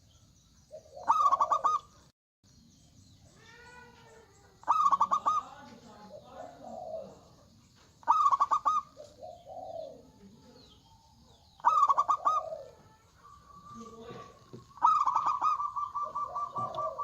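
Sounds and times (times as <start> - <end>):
doves cooing: 0.7 - 2.0, 3.5 - 17.0.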